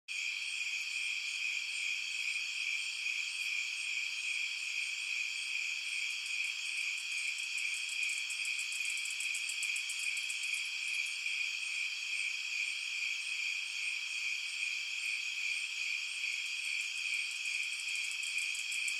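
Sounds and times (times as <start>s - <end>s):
insects trilling: 0.1s - 18.9s
fast pulsing insect chirp: 3.2s - 18.9s.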